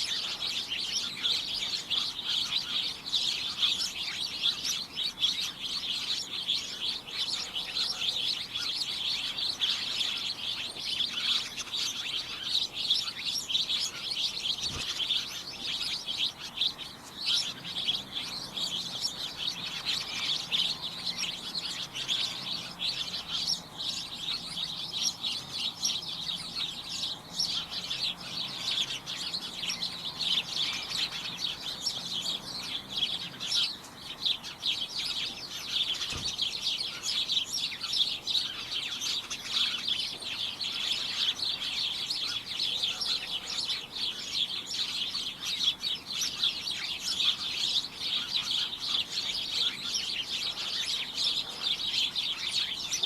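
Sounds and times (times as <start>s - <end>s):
flock of small birds chirping: 0.0s - 53.0s.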